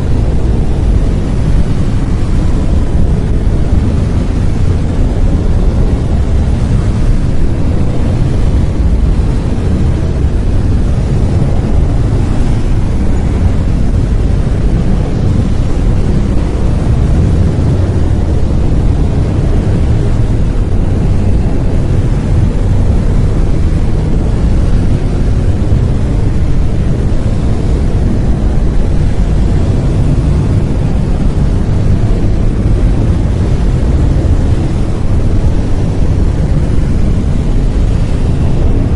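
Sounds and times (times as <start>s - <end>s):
brown noise: 0.0s - 38.9s.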